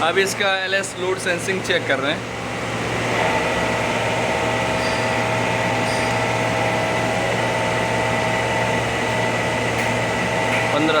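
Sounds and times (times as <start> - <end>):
hydraulic pump humming and whining: 0.0 - 11.0.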